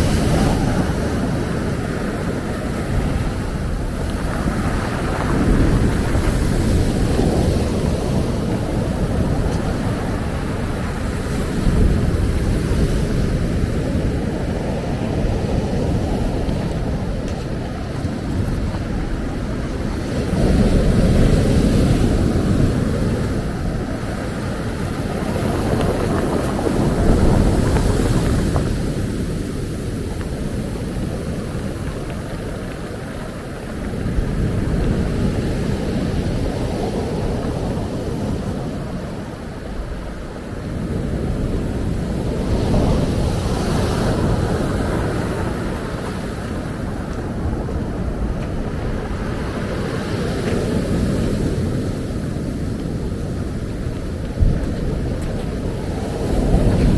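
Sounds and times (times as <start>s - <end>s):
ocean waves breaking: 0.0s - 56.9s
wind rumble on microphone: 0.0s - 56.9s.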